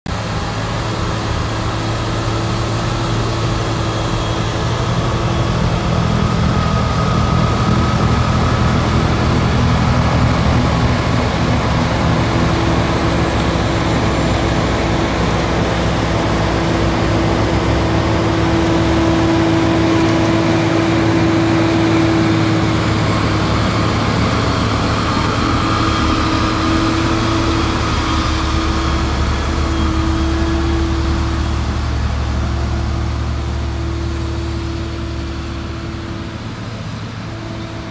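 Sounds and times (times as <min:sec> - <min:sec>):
snow blower engine droning: 0:00.1 - 0:37.9.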